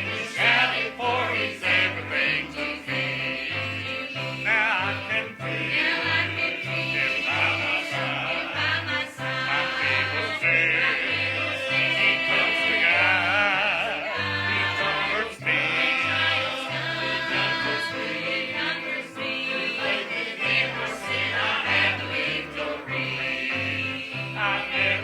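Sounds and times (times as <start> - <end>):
church choir singing: 0.0 - 25.0
instrumental accompaniment: 0.0 - 25.0.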